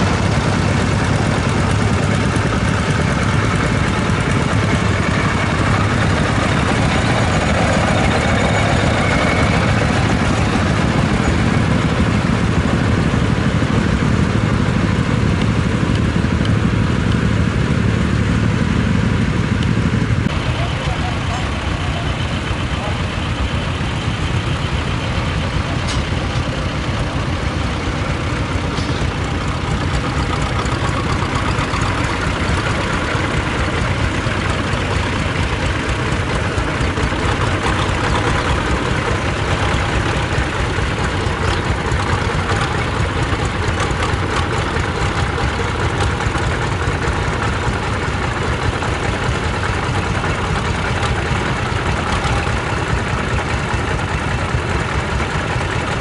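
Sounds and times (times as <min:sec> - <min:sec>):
tractor diesel engines chugging: 0:00.0 - 0:56.0.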